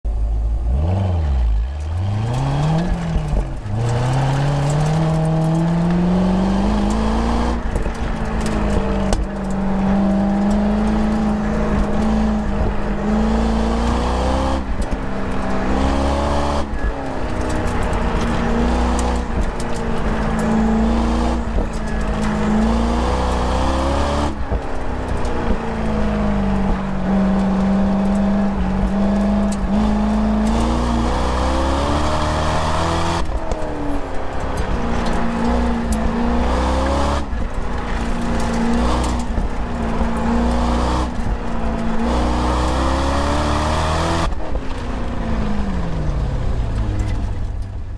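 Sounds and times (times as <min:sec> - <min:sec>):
car engine revving hard: 0:00.6 - 0:44.5.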